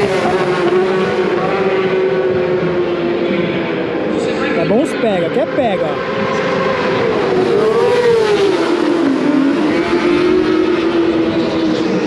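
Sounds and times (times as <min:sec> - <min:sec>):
racing motorcycles passing: 0:00.0 - 0:12.0.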